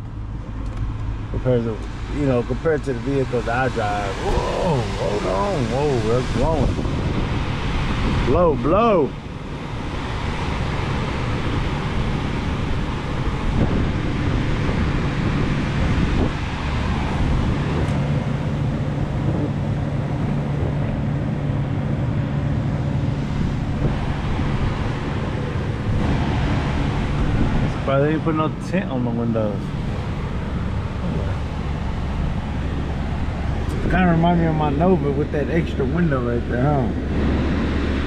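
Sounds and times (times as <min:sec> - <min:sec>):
car engine low hum: 0:00.0 - 0:38.0
heater blower rushing air: 0:00.8 - 0:38.0.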